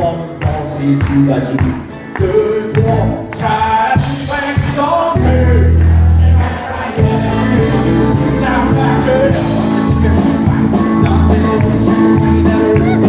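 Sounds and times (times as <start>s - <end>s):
man singing: 0.0s - 6.2s, 7.0s - 13.0s
live country band playing: 0.0s - 13.0s.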